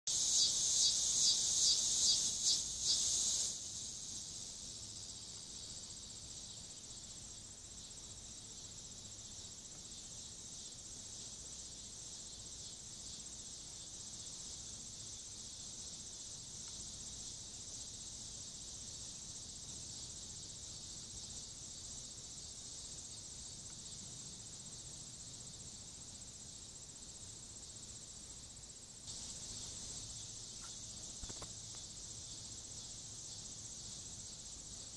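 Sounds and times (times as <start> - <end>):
insects chirping in chorus: 0.1 - 34.9.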